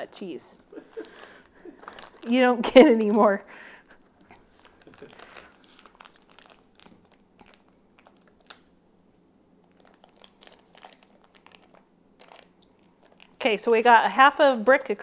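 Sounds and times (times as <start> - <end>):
foil wrapper crinkling: 0.8 - 8.8, 9.6 - 15.0.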